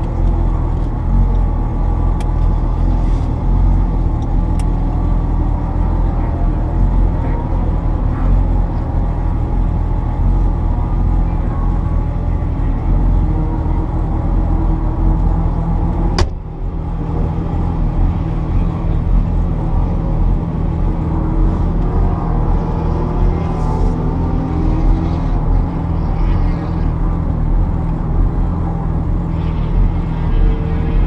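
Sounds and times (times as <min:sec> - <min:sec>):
sports car engine running hard: 0:00.0 - 0:31.0.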